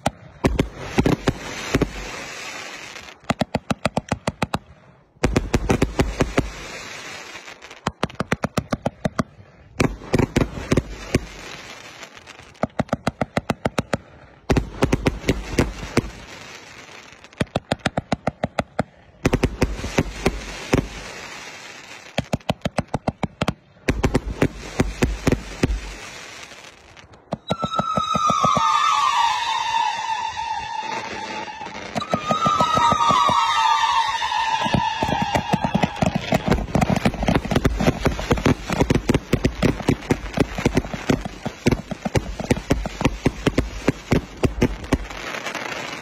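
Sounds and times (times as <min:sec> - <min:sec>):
fireworks shots with deep thuds: 0:00.0 - 0:02.3, 0:03.2 - 0:06.8, 0:07.8 - 0:11.6, 0:12.6 - 0:16.3, 0:17.4 - 0:21.2, 0:22.1 - 0:26.2, 0:27.2 - 0:45.2
crackling hiss of bursting stars: 0:00.0 - 0:03.4, 0:04.4 - 0:23.1, 0:23.7 - 0:46.0.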